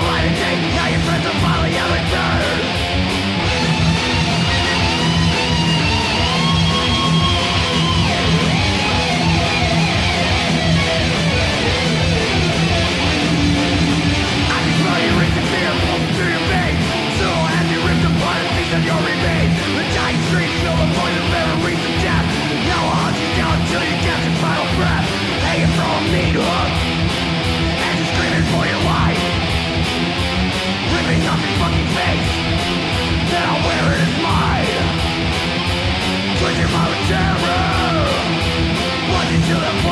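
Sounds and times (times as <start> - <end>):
bass guitar: 0.0 - 39.9
distorted electric guitars riffing: 0.0 - 39.9.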